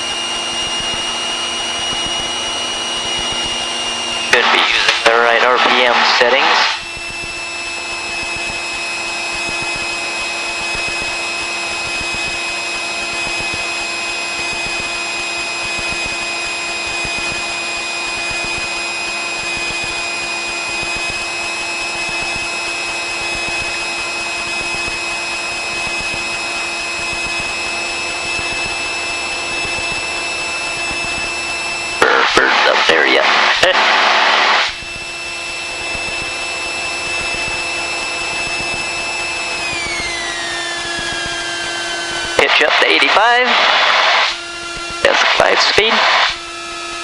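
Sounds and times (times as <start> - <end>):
light aircraft cabin drone: 0.0 - 47.0
steady high whine: 0.0 - 47.0.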